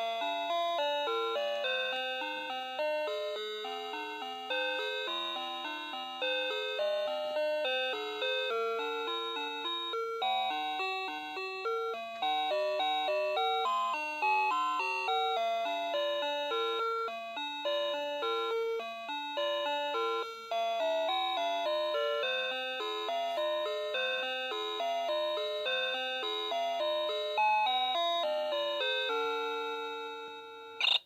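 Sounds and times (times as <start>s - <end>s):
alarm clock electronic melody: 0.0s - 31.0s.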